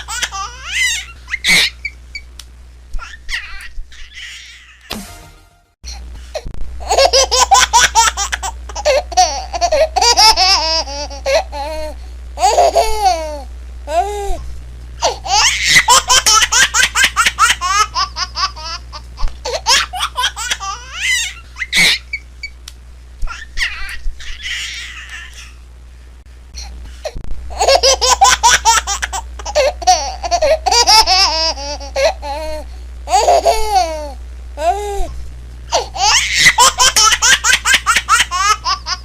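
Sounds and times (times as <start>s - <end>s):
baby laughing and squealing: 0.0s - 2.0s, 3.0s - 4.9s, 6.8s - 14.4s, 15.0s - 22.2s, 23.3s - 25.6s, 27.5s - 35.1s, 35.7s - 39.0s
steady low hum: 0.0s - 39.0s.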